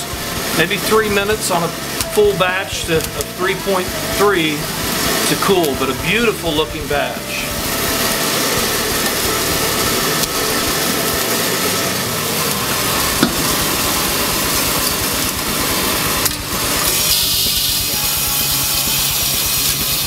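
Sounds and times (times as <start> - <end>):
cooling fan rushing: 0.0 - 20.0.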